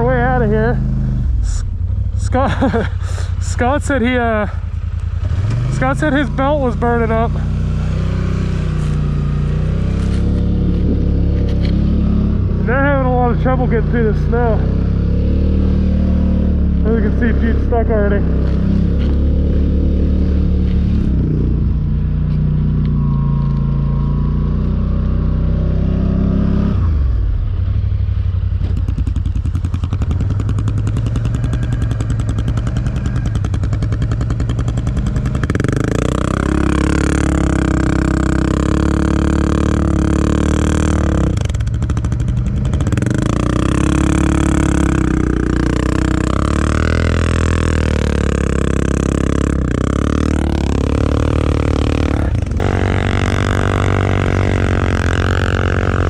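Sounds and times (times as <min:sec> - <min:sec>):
quad bike engines revving: 0:00.0 - 0:27.6, 0:28.5 - 0:56.0
louder higher engine revving: 0:03.6 - 0:27.5, 0:29.0 - 0:56.0.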